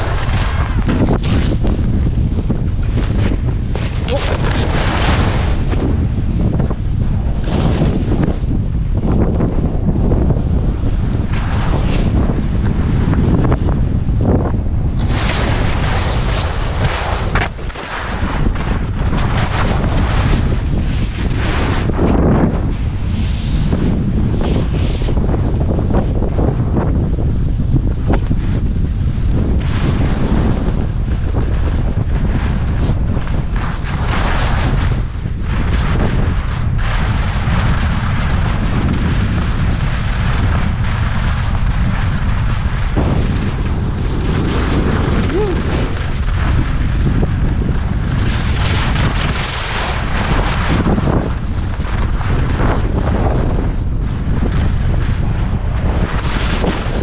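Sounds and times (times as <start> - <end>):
skis scraping over snow: 0.0 - 57.0
wind buffeting microphone: 0.0 - 57.0.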